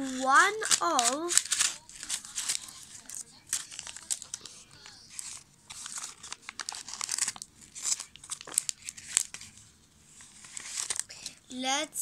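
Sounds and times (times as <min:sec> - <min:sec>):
scissors cutting wrapper: 0:00.0 - 0:09.6, 0:10.3 - 0:11.4
wrapper crinkling and tearing: 0:00.0 - 0:11.4.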